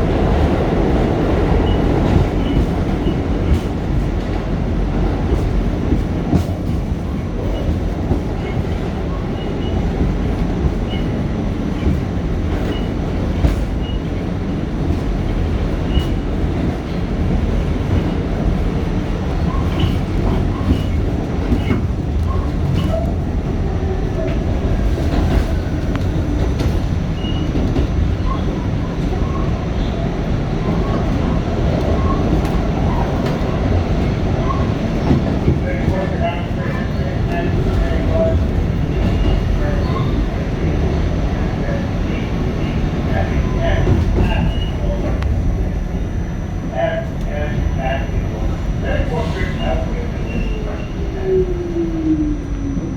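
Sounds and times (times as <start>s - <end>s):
rail joint clicks and knocks: 0.0s - 46.1s
subway wheels rumbling on track: 0.0s - 52.9s.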